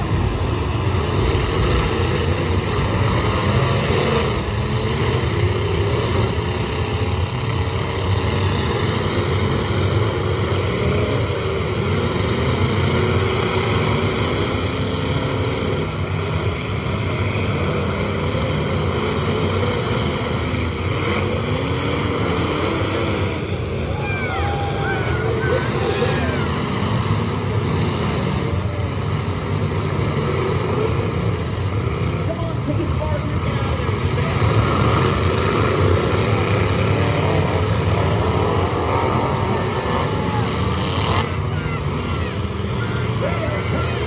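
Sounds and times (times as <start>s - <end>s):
many car engines revving: 0.0s - 44.0s.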